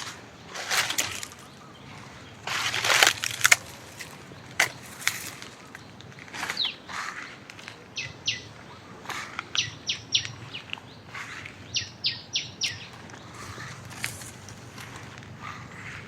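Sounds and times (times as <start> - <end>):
footsteps on dry leaves: 0.0 - 9.5, 12.4 - 16.0.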